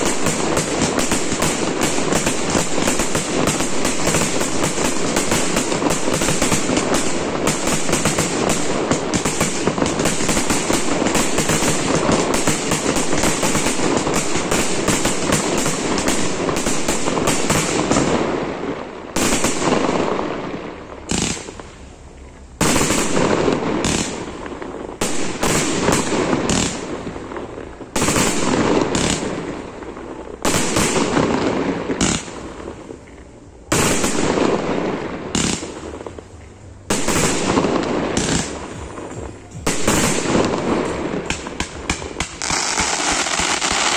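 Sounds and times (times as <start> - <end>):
loud firework bangs: 0.0 - 21.8, 22.6 - 43.9
fireworks bursts and pops: 0.0 - 43.9.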